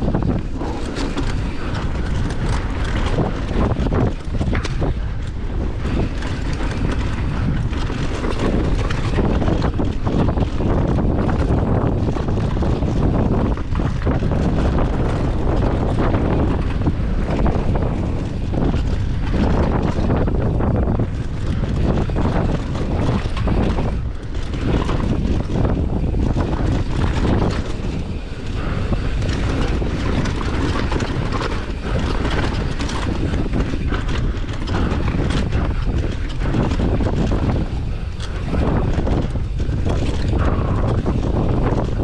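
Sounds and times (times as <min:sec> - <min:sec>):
bike rattling and clattering: 0:00.0 - 0:42.0
tyres rumbling on rocky dirt: 0:00.0 - 0:42.0
wind buffeting microphone: 0:00.0 - 0:42.0.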